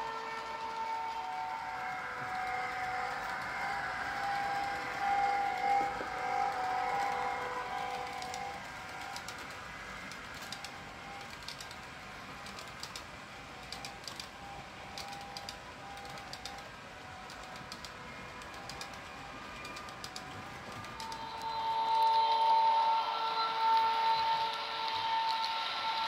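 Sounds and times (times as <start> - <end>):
model train wheels clicking: 0.0 - 26.0.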